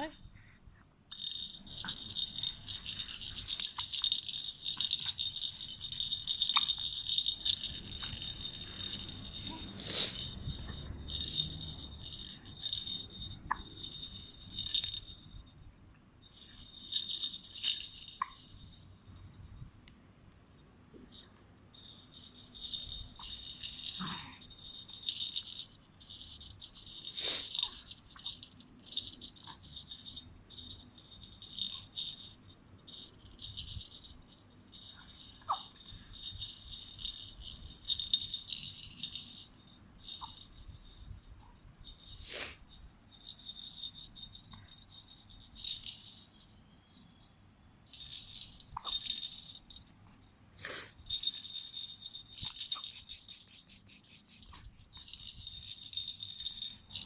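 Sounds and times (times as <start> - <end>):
rattle toy bell jingling: 0.0 - 19.7, 21.1 - 47.2, 47.8 - 49.9, 50.6 - 57.0.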